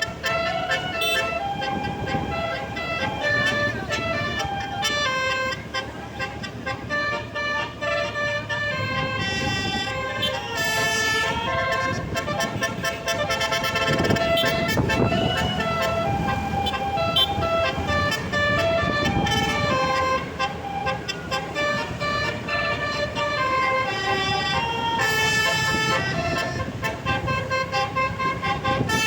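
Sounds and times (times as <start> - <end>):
musical air horn melody: 0.0 - 29.0.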